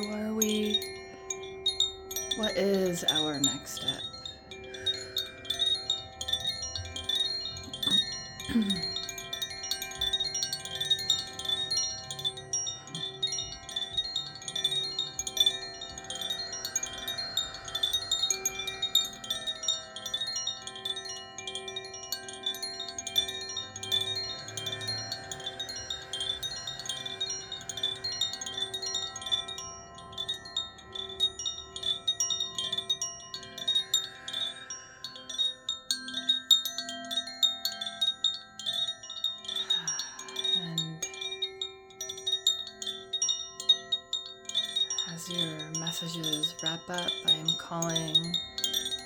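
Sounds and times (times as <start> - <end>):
metal chimes tinkling: 0.0 - 49.0.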